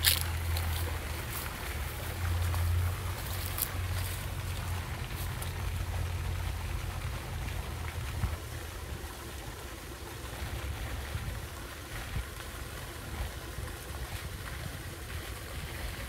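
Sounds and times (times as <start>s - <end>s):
wind rumbling on microphone: 0.0s - 9.5s, 10.2s - 16.0s.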